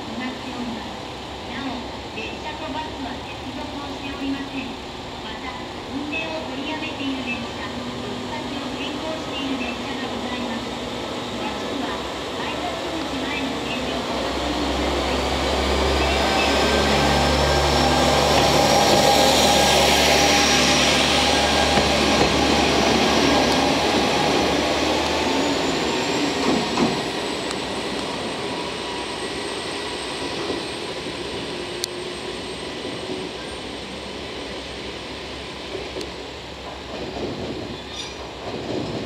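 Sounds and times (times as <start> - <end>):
diesel railcar engine: 0.0 - 39.0.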